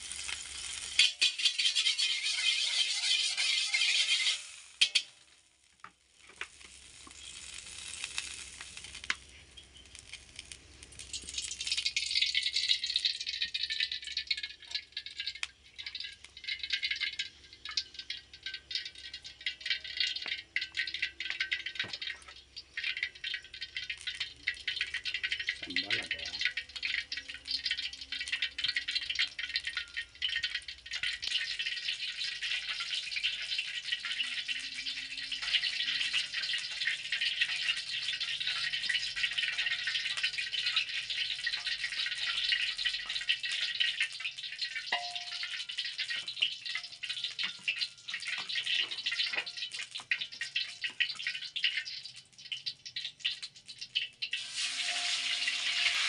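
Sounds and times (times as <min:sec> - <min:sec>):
fish frying sizzle: 0:00.0 - 0:56.0
hot oil crackling and spitting: 0:00.0 - 0:56.0.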